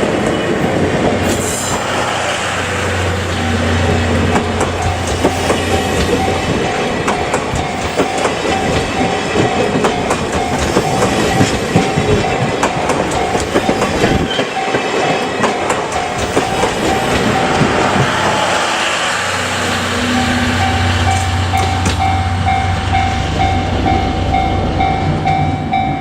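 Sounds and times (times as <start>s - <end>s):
level crossing warning bell: 0.0s - 26.0s
train wheels clicking over rail joints: 0.0s - 26.0s.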